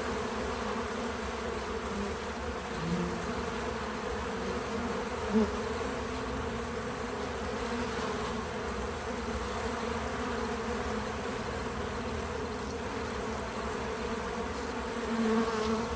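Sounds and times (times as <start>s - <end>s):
bees buzzing: 0.0s - 15.9s.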